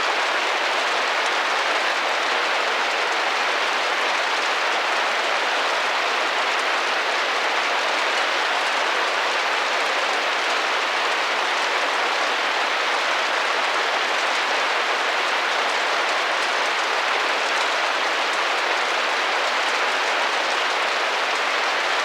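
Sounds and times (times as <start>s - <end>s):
rain pattering on a window: 0.0s - 22.0s.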